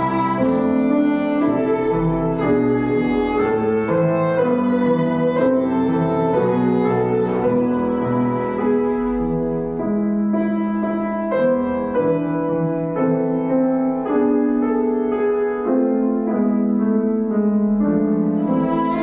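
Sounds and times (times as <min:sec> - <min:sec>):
slow classical piano melody: 0:00.0 - 0:19.0.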